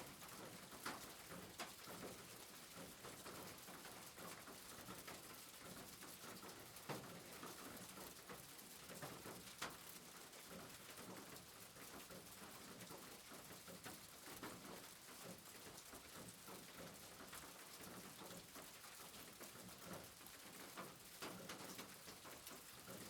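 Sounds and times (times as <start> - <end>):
faint steady rain: 0.0 - 23.0
raindrop ticks: 0.2 - 23.0.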